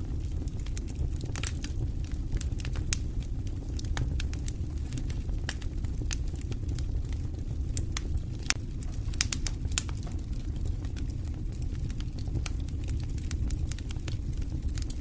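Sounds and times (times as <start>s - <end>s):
fire flames rumbling: 0.0s - 15.0s
wood fire crackles and pops: 0.0s - 15.0s.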